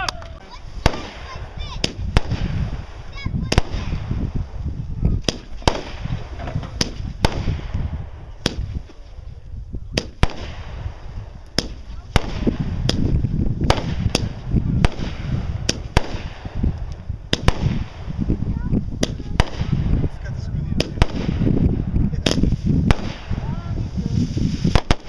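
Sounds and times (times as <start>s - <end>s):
fireworks bangs: 0.0s - 9.3s, 9.9s - 25.0s.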